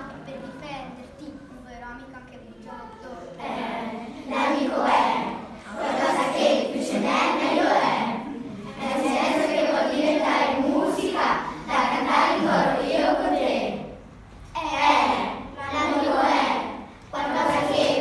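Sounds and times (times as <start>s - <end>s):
children chanting a rap: 2.8s - 18.0s.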